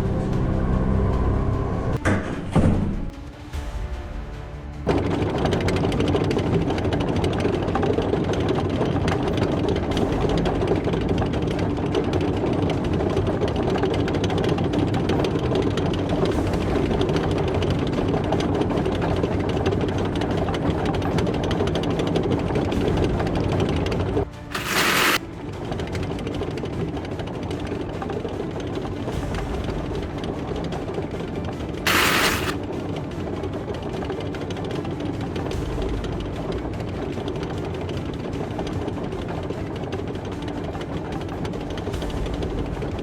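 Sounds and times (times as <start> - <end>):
tank engine and tracks clattering: 0.0 - 43.0.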